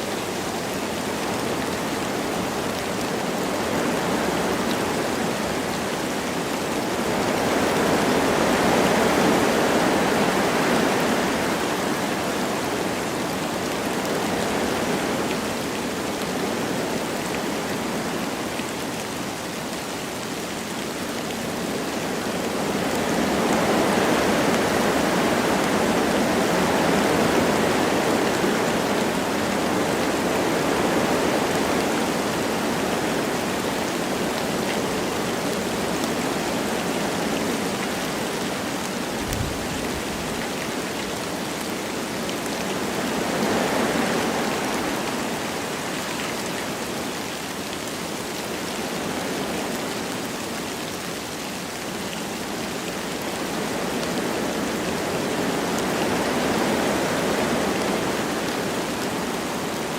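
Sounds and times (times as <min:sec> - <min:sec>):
light rain: 0:00.0 - 0:59.9
wind through trees: 0:00.0 - 0:59.9.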